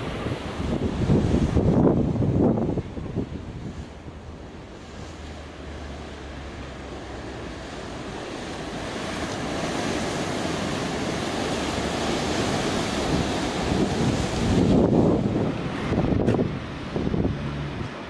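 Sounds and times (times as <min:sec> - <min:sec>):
wind buffeting microphone: 0:00.0 - 0:05.0, 0:07.2 - 0:18.0
surf breaking on rocks: 0:00.0 - 0:18.0.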